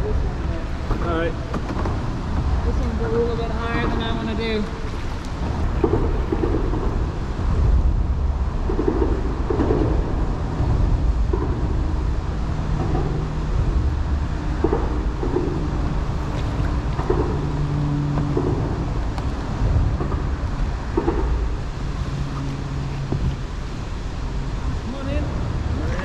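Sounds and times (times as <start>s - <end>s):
low rumble in concrete chamber: 0.0s - 26.0s.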